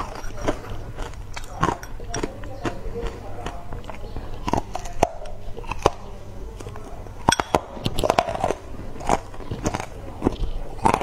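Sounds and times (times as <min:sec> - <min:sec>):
ice cubes being chewed: 0:00.0 - 0:11.0.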